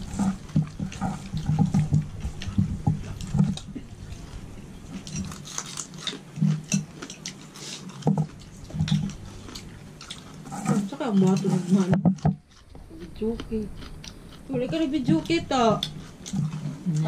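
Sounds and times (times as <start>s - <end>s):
chewing and crunching food: 0.0s - 17.0s.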